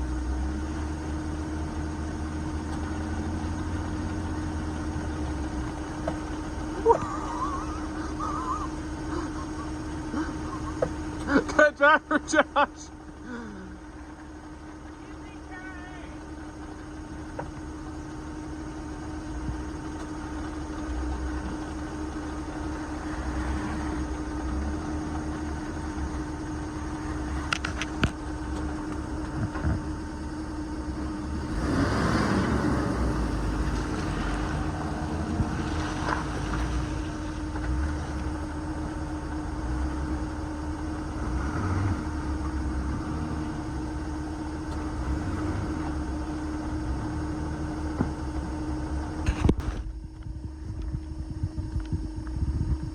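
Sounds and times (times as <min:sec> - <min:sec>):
off-road vehicle engine running: 0:00.0 - 0:52.9
steady hum: 0:03.1 - 0:52.9.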